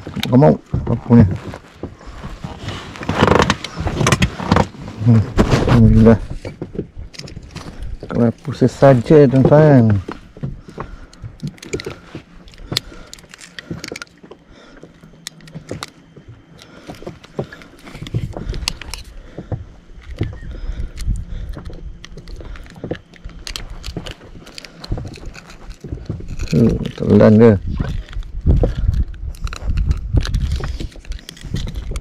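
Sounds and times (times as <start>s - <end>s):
fishing gear clicking and rattling: 0.0s - 32.0s.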